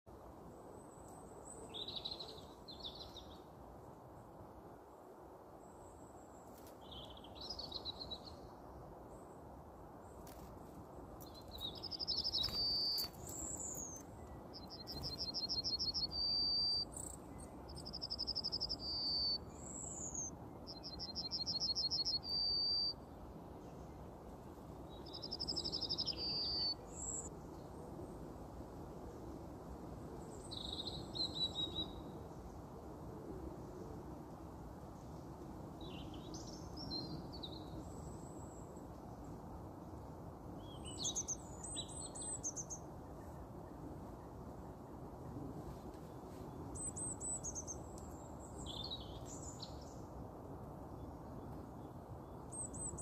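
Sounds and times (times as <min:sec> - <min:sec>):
songbirds chirping: 0:00.1 - 0:28.3, 0:34.7 - 0:53.0
steady low hiss: 0:00.1 - 0:53.0.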